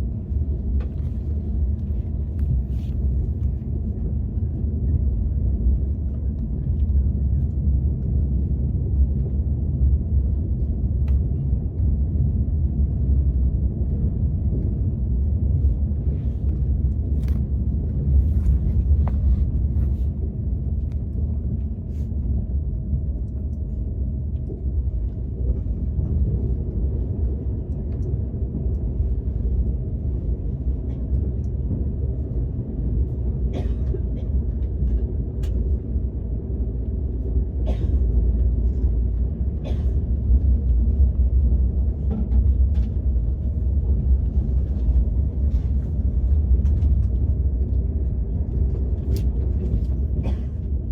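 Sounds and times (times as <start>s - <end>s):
train rumble inside car: 0.0s - 50.9s.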